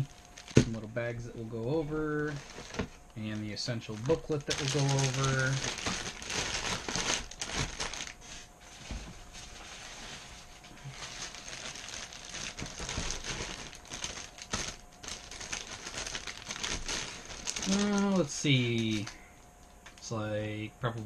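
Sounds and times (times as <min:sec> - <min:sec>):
plastic bags crinkling: 0:00.0 - 0:20.2.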